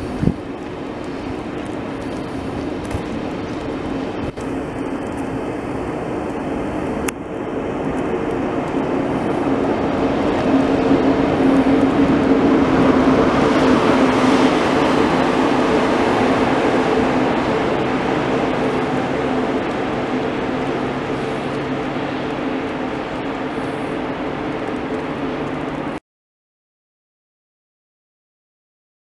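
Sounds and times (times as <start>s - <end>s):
high-speed train passing: 0.0s - 26.0s.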